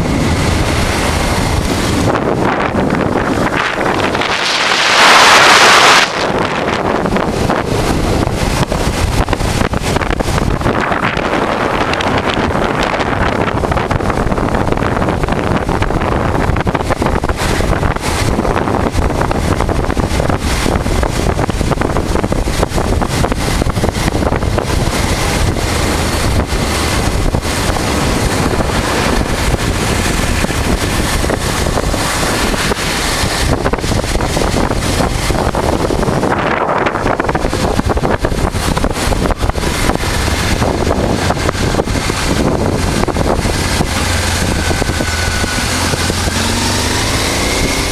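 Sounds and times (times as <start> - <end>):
motorcycle engine running: 0.0 - 47.9
wind buffeting microphone: 0.0 - 47.9.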